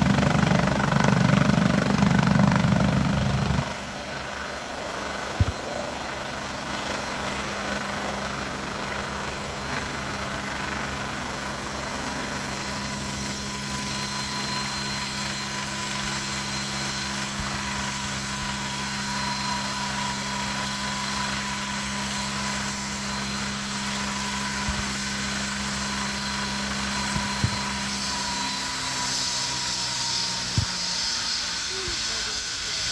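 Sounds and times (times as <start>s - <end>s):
helicopter running: 0.0s - 32.9s.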